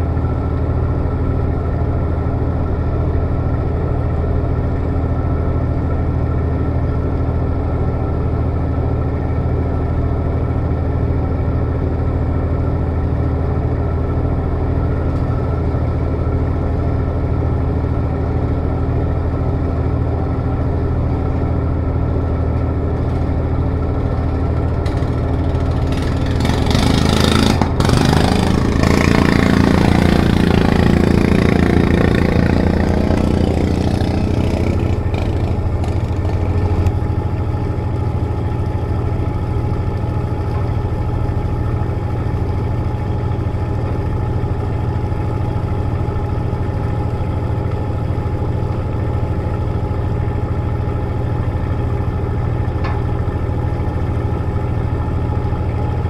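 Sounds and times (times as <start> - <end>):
boat engine droning: 0.0 - 56.0
motorboat passing: 0.0 - 56.0.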